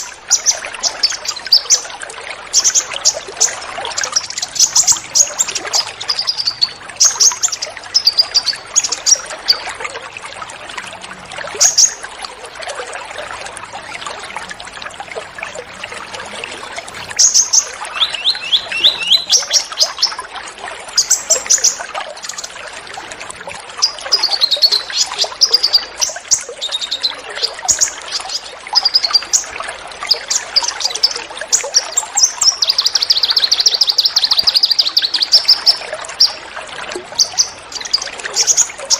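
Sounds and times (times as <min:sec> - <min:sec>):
songbirds chirping and trilling: 0:00.0 - 0:38.9
trickle of running water: 0:00.0 - 0:38.9.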